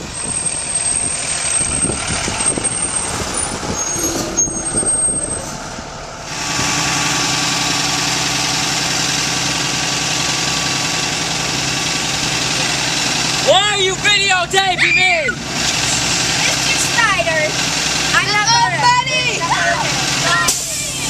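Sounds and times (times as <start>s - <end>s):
bus engine idling: 0.0s - 21.0s
outdoor noise: 0.0s - 21.0s.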